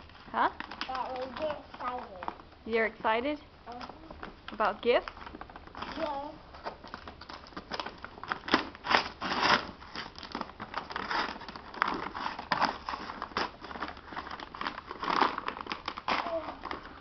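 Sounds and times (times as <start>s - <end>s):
stiff paper crinkling: 0.0s - 2.4s, 3.7s - 17.0s.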